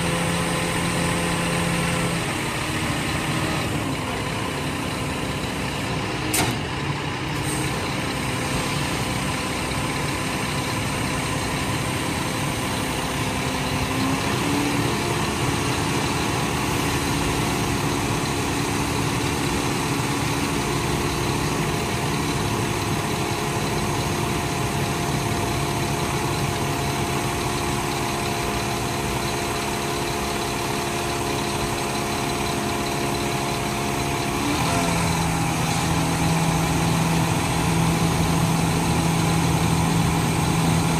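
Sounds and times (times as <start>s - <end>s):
diesel truck engine running: 0.0s - 40.9s
hydraulic pump whine: 0.0s - 40.9s.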